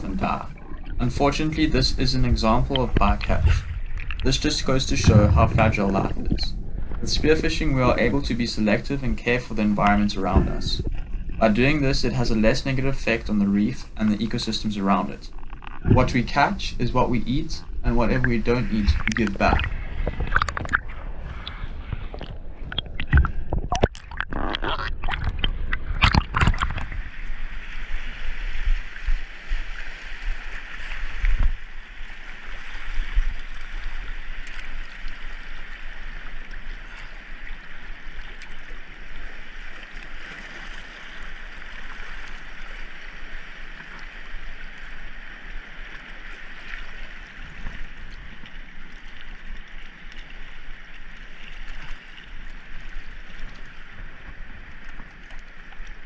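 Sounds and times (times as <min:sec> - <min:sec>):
sea water and surf rushing: 0:00.0 - 0:56.0
water splashing and gurgling: 0:00.0 - 0:56.0.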